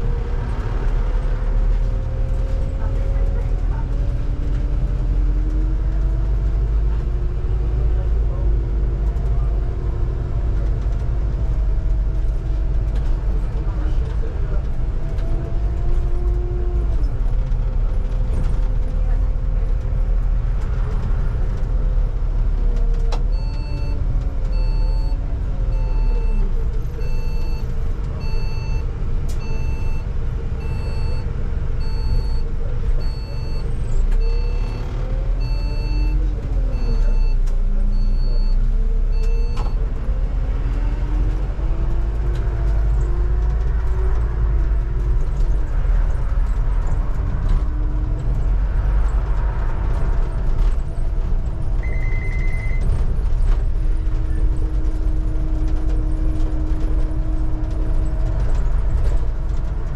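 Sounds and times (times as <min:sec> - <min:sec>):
bus drivetrain and road rumble: 0:00.0 - 0:59.9
bus whine: 0:00.0 - 0:59.9.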